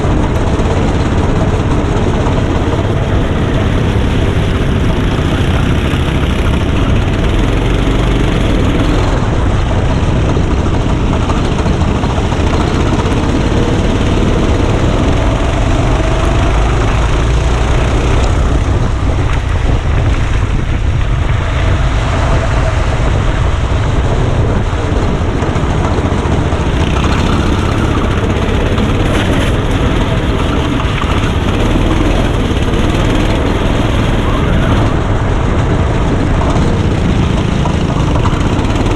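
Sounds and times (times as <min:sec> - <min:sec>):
go-kart engine: 0:00.0 - 0:38.9
rushing noise: 0:00.0 - 0:38.9.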